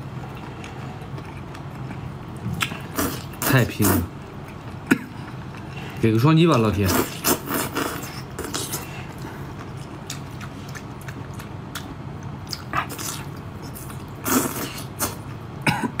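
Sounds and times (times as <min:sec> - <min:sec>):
person chewing noodles: 0:00.0 - 0:06.0, 0:06.9 - 0:15.4.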